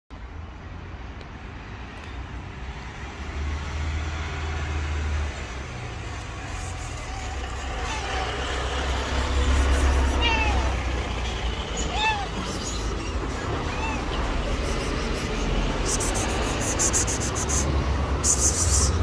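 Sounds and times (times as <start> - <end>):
low rumble of road traffic: 0.1 - 19.0.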